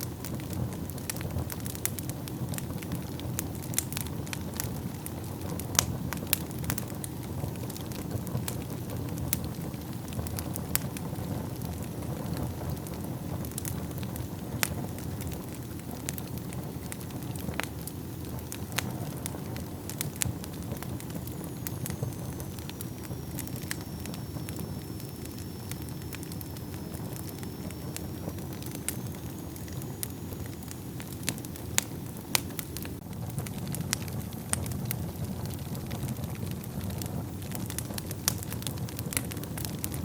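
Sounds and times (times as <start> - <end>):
fire roaring: 0.0 - 40.0
logs crackling and popping: 0.0 - 40.0.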